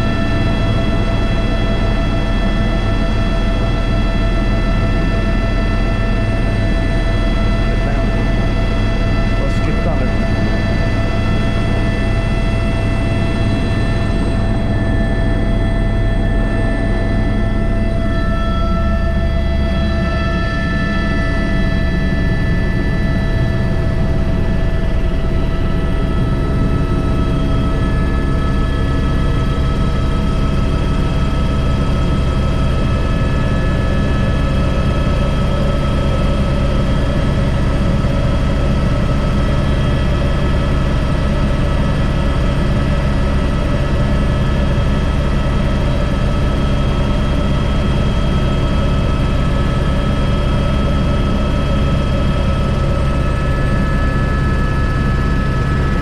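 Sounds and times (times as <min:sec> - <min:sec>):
helicopter rotor rumble: 0:00.0 - 0:56.0
turbine whine: 0:00.0 - 0:56.0.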